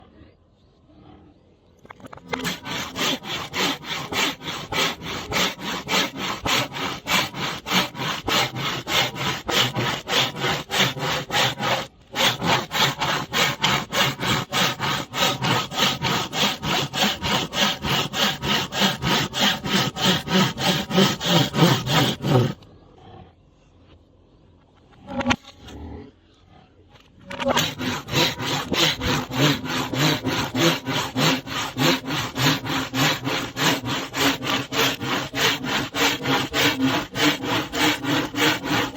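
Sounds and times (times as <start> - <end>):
hand saw cutting bamboo: 2.0 - 22.6, 27.2 - 38.9.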